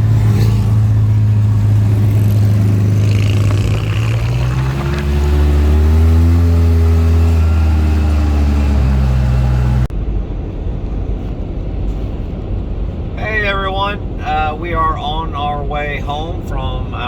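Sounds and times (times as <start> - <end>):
vehicle engine running: 0.0 - 13.8
road noise rumble: 0.0 - 17.0.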